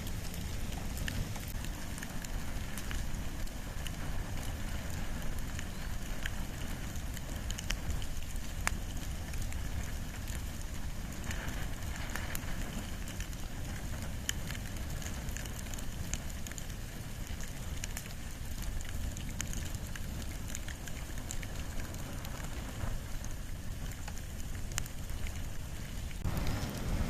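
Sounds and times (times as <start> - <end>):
fire crackling and popping: 0.0 - 27.0
fire low rumble: 0.0 - 27.0.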